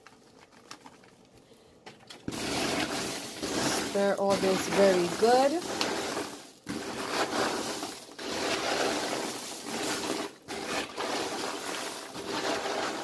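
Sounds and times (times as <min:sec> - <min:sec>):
popcorn rustling crunch: 0:00.0 - 0:13.0.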